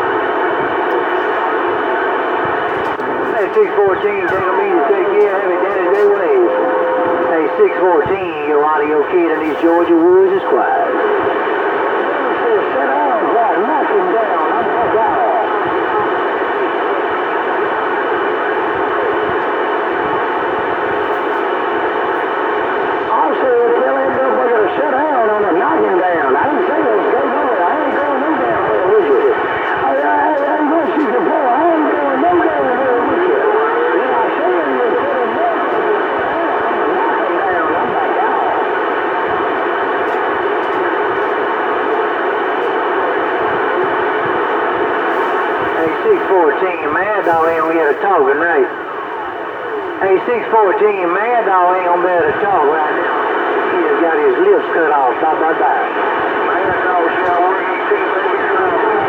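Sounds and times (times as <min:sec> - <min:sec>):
faint steady radio tones: 0:00.0 - 0:59.0
radio static hiss: 0:00.0 - 0:59.0.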